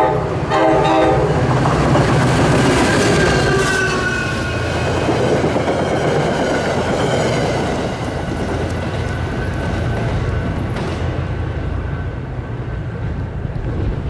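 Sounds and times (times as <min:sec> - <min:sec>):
train engine drone: 0:00.0 - 0:14.0.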